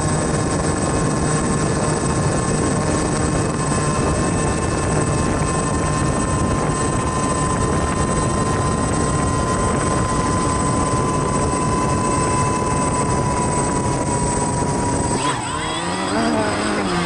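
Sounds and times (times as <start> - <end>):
drone motors and propellers running: 0.0 - 17.0.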